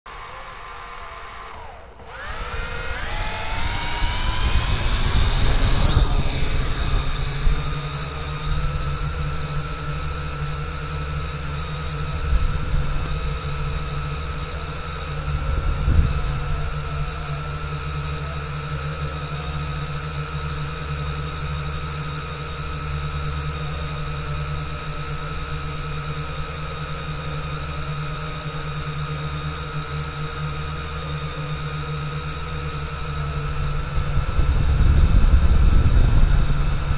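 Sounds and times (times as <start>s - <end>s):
drone propellers whining: 0.1s - 36.9s.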